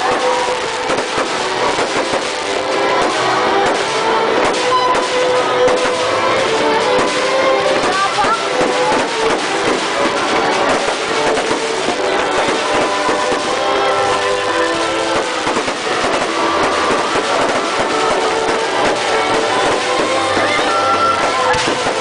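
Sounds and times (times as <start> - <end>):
fireworks bangs and crackle: 0.0 - 22.0
loud music: 0.0 - 22.0.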